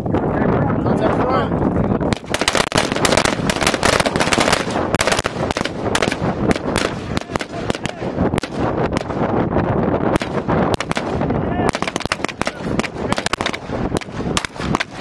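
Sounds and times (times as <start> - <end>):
rifle shots with echo: 2.1 - 9.3, 10.1 - 15.0.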